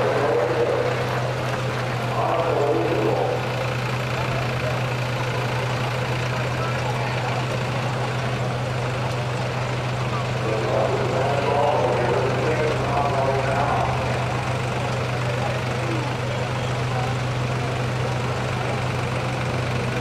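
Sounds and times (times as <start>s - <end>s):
people's voices: 0.0s - 20.0s
tractor engine idling: 0.0s - 20.0s.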